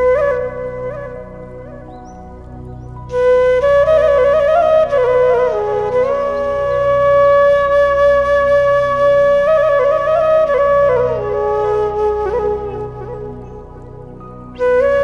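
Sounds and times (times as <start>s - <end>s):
flute playing slow melody: 0.0s - 15.0s
low pulsing accompaniment: 0.0s - 15.0s.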